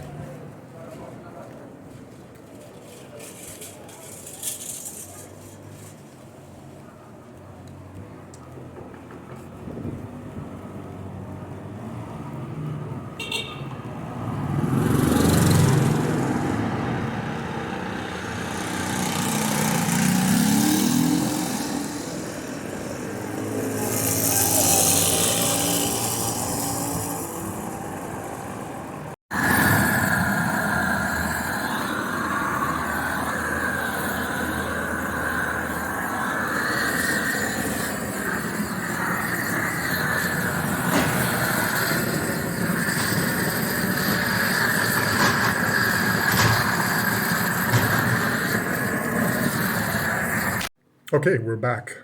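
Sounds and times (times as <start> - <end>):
street hubbub: 0.0 - 50.7
vehicles passing: 0.0 - 50.7.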